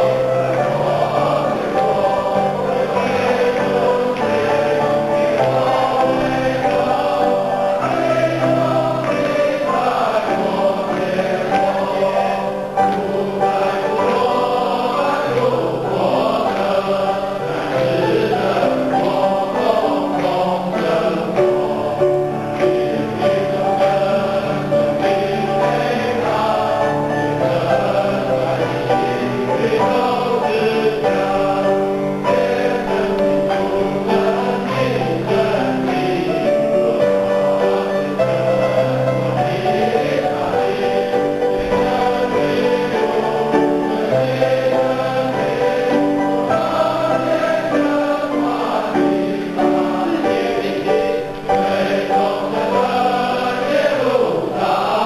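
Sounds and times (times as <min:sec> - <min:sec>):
congregation singing a hymn: 0:00.0 - 0:55.0
grand piano: 0:00.0 - 0:55.0.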